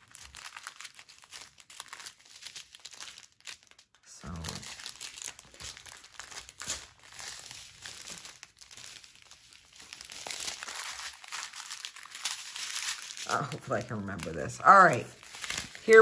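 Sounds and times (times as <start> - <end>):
plastic bags crinkling: 0.0 - 16.0.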